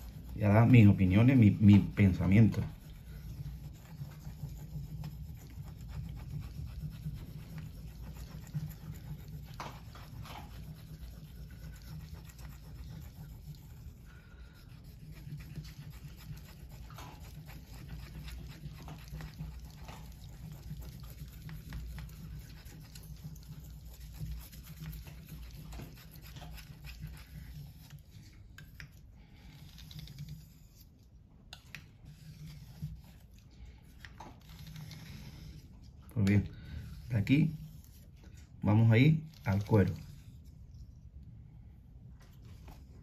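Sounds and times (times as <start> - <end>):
knife scraping on whetstone: 0.0 - 35.9.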